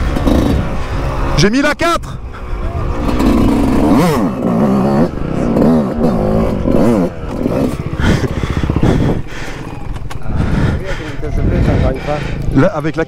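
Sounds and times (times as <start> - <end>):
motocross bike engine revving: 0.0 - 12.6.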